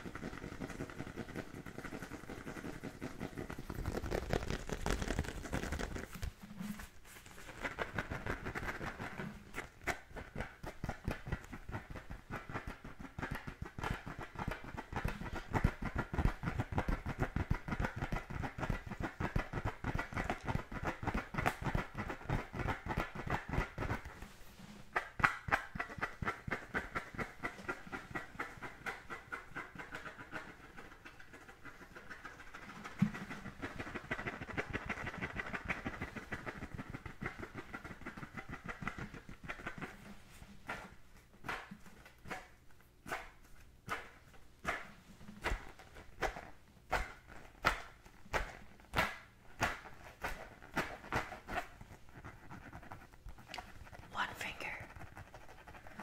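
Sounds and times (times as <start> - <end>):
fingernails scratching a football: 0.0 - 40.9, 44.7 - 56.0.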